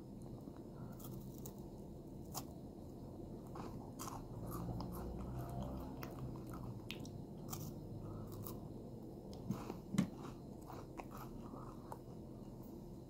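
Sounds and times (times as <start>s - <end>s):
person chewing crunchy chocolate: 0.2s - 12.7s.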